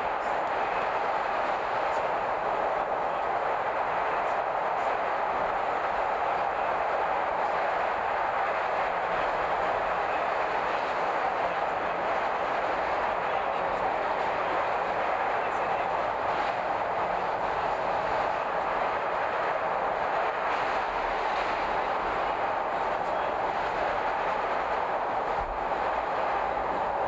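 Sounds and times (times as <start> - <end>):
train rumble and rail noise: 0.0 - 27.0.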